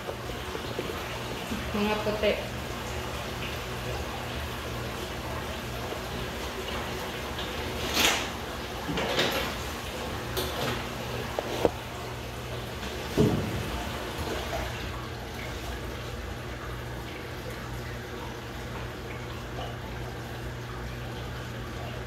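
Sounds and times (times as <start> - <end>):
water rushing into washing machine: 0.0 - 22.0.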